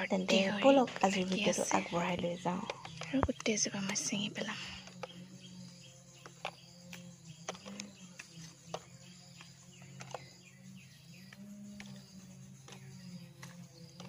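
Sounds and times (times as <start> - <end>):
birds chirping: 0.0 - 14.0
insects chirping: 0.0 - 14.0.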